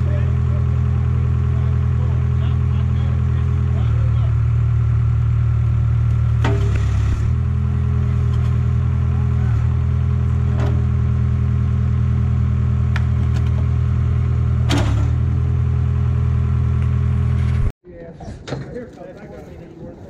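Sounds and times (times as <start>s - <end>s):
engine running steadily: 0.0s - 17.7s.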